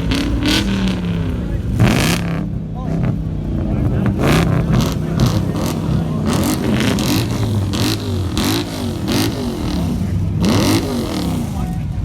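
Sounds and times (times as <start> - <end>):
car engine revving over idle: 0.0 - 12.0.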